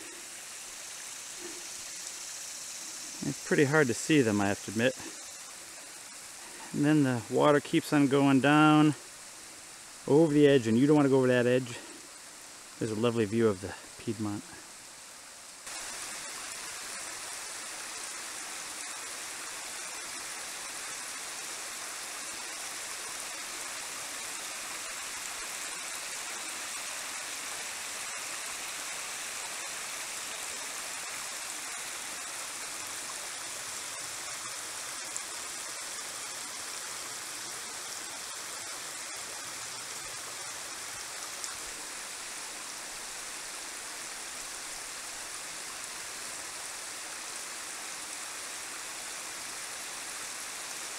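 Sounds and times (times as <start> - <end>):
water running over rock: 0.0 - 8.2, 15.6 - 50.9.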